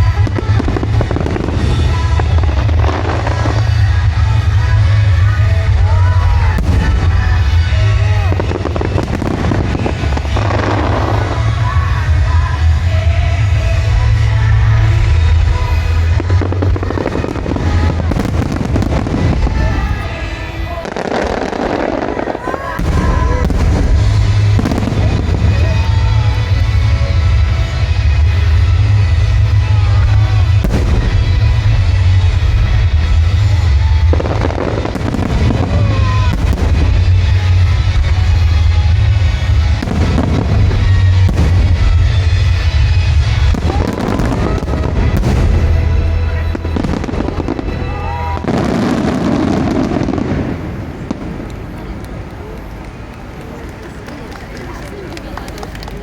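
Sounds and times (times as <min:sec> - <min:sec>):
music with heavy bass line: 0:00.0 - 0:21.8, 0:22.8 - 0:50.1
firework bursts crackling: 0:00.0 - 0:56.0.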